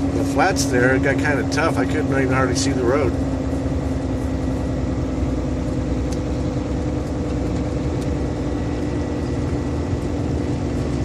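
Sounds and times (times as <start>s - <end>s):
steady hum: 0.0s - 11.0s
truck engine and road noise: 0.0s - 11.0s.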